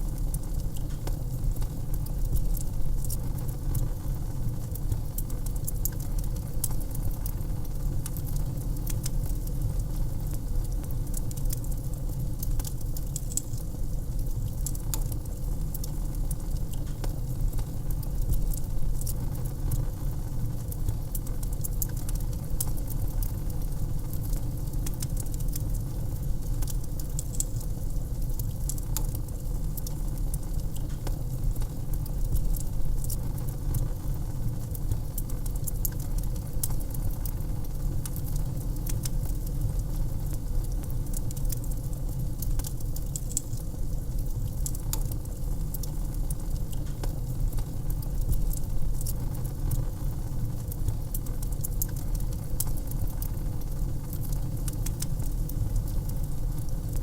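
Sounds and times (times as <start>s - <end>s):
wood fire crackling and popping: 0.1s - 57.0s.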